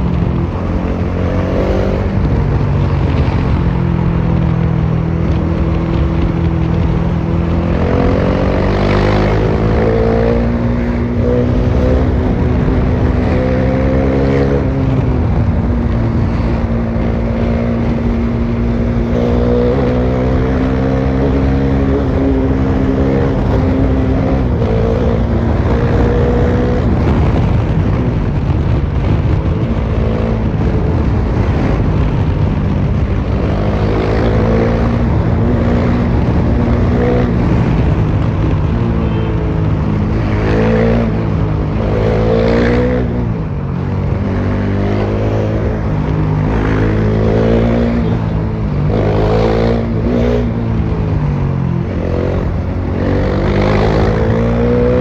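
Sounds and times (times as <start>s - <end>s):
motorcycle engine accelerating: 0.0s - 55.0s
wind rushing: 0.0s - 55.0s.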